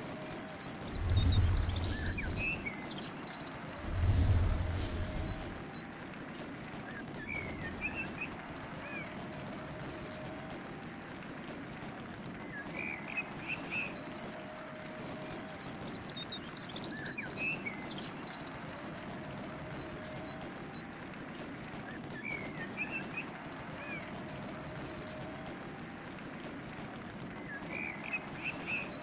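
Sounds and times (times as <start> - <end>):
birds singing and twittering: 0.0 - 10.3, 12.4 - 25.2, 27.4 - 29.0.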